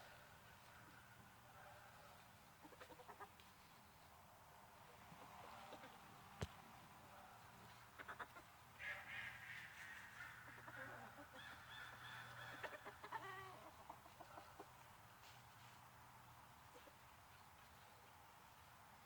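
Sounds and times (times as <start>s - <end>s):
faint poultry calls: 0.0s - 6.4s, 7.0s - 18.7s.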